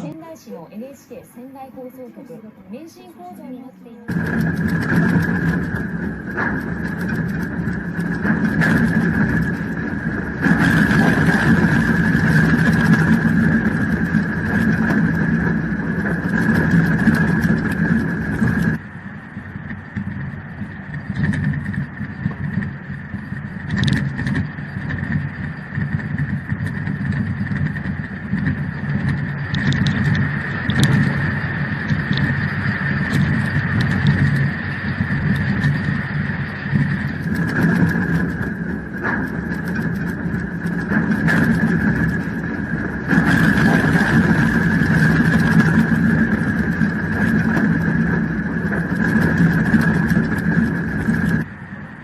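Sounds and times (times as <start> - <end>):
rattling and clicking of building: 4.1 - 51.5
low rumbling of earthquake: 4.1 - 52.0.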